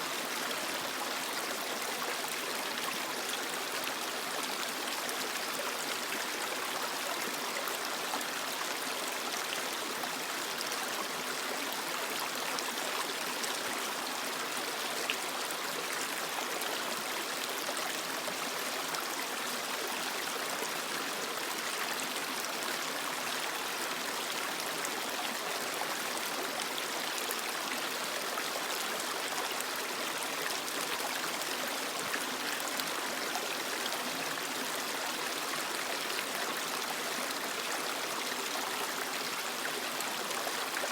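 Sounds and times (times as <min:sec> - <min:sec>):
creek water flowing over rocks: 0:00.0 - 0:40.9.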